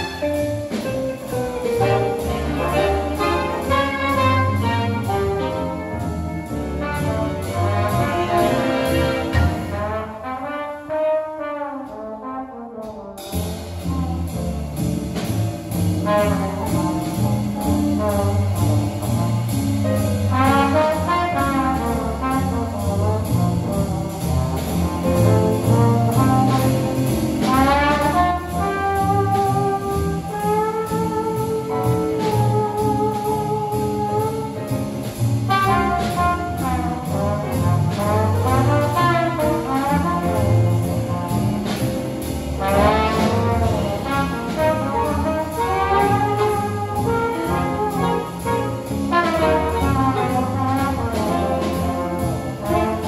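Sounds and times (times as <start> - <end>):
trumpet: 0.0 - 14.2, 16.0 - 53.0
double bass: 0.0 - 53.0
drums: 0.0 - 53.0
piano: 0.0 - 53.0
trombone: 0.0 - 53.0.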